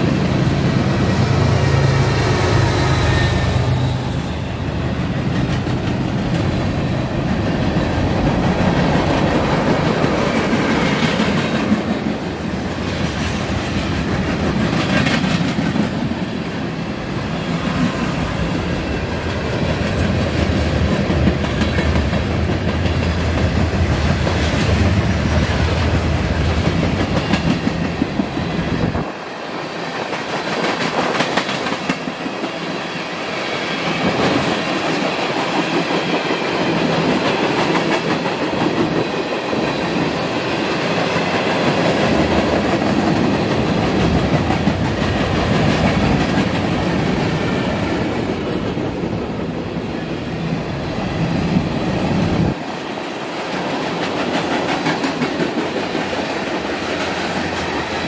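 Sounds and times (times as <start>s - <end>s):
train wheels on track: 0.0s - 58.0s.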